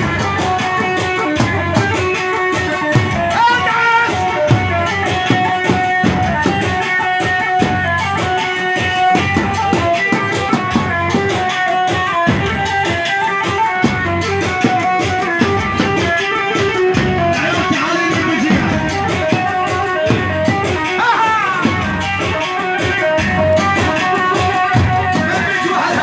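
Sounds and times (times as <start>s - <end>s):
fast drum beat: 0.0s - 26.0s.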